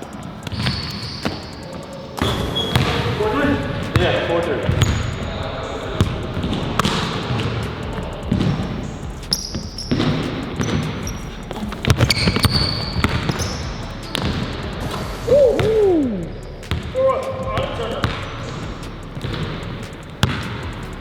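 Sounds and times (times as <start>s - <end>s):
basketball bouncing on a court: 0.0s - 21.0s
sneaker squeaks: 0.0s - 21.0s.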